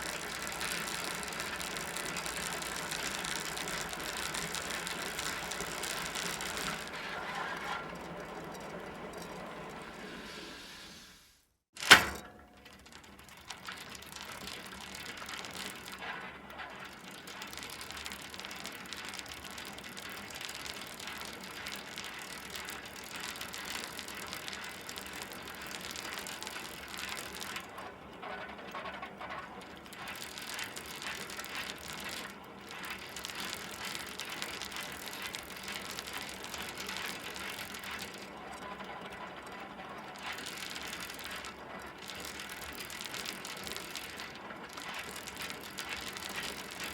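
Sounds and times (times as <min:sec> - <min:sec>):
bicycle freewheel ratchet ticking: 0:00.0 - 0:09.4, 0:12.7 - 0:46.9
bicycle chain rattling: 0:00.0 - 0:10.0, 0:11.8 - 0:46.9.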